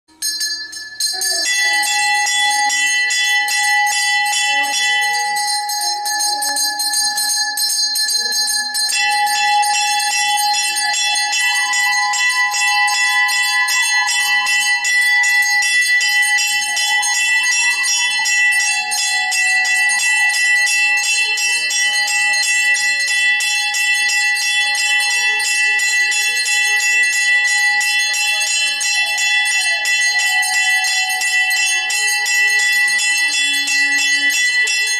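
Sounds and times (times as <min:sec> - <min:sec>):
hand bell ringing: 0:00.1 - 0:34.9.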